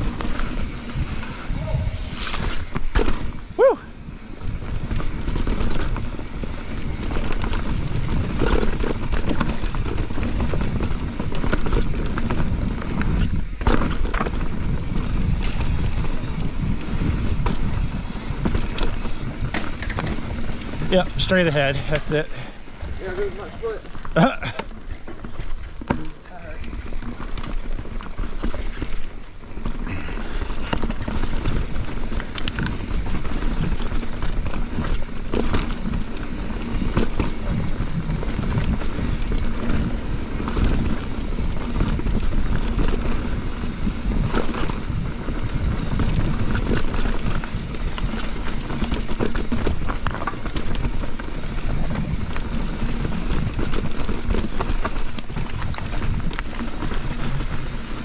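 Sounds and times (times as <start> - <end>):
bike knocks and rattles: 0.0 - 58.0
rumble of tyres and wind: 0.0 - 58.0.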